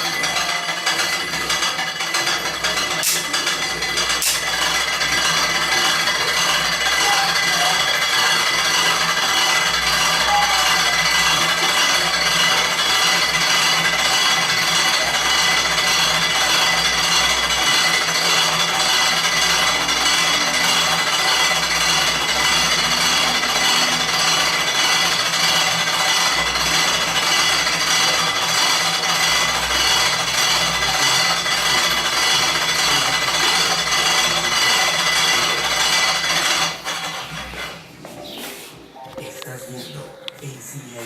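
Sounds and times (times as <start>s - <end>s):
appliance grinding and rasping: 0.0s - 38.0s
high-pitched whine: 2.5s - 41.0s.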